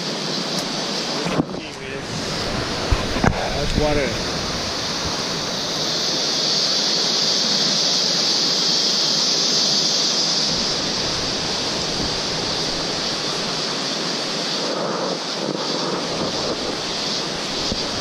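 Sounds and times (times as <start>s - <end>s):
rainforest high-pitched hiss: 0.0s - 18.0s.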